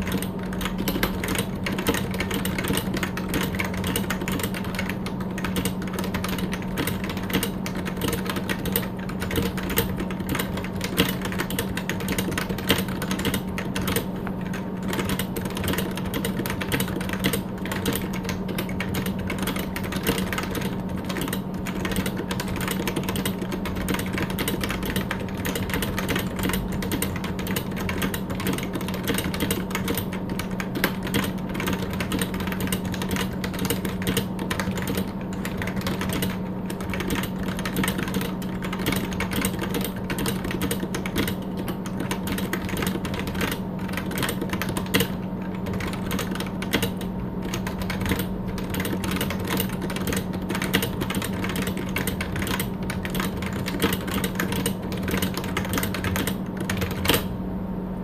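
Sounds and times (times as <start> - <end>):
fast keyboard typing: 0.0 - 57.3.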